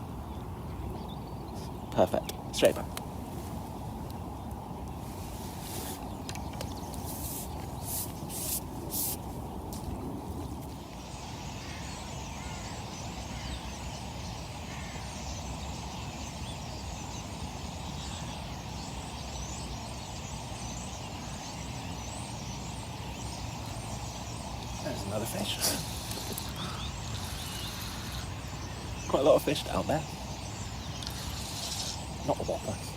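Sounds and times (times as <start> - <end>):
faint bird chirps: 0.0 - 32.9.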